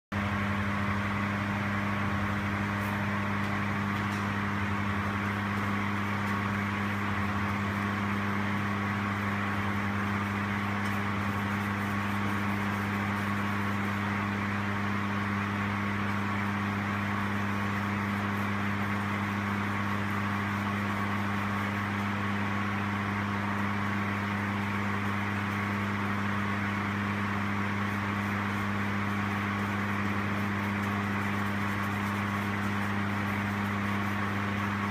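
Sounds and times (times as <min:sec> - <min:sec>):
electrical hum: 0:00.1 - 0:34.9.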